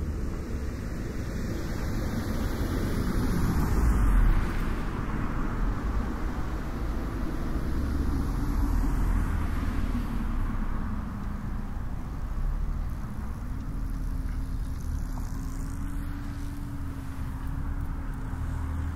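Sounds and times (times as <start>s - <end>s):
vehicle passing on road: 0.0s - 18.9s.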